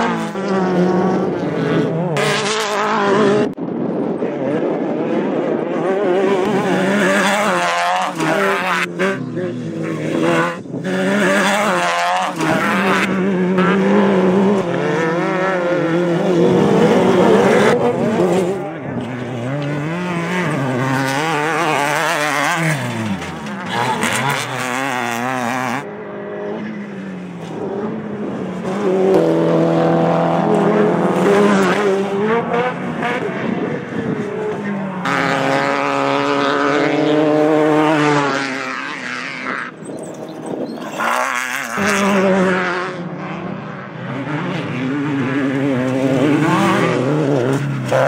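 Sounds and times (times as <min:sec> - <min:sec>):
engines revving hard: 0:00.0 - 0:48.0.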